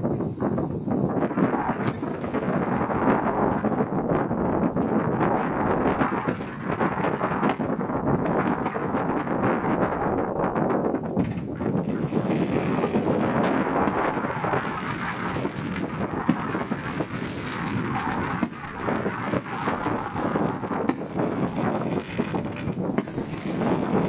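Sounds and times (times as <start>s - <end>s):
fireworks bursts and crackle: 0.0s - 24.0s
sharp firework cracks: 1.4s - 9.9s, 11.1s - 24.0s.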